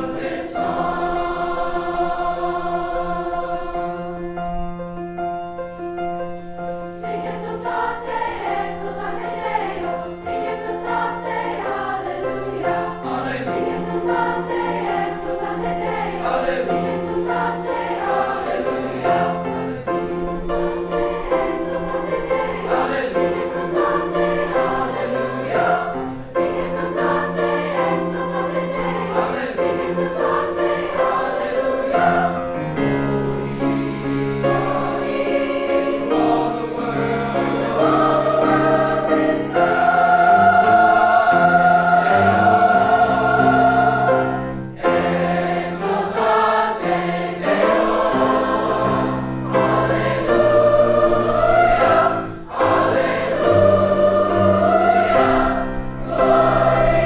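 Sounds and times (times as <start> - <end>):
youth choir singing in parts: 0.0 - 4.4, 6.9 - 57.0
piano accompaniment: 0.0 - 57.0.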